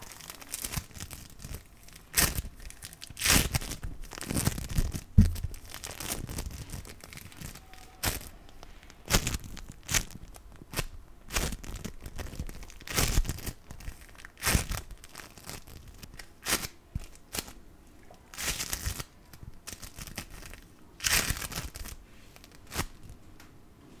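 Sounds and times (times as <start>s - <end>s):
foam-bead slime crunching: 0.0s - 17.6s, 18.3s - 23.2s.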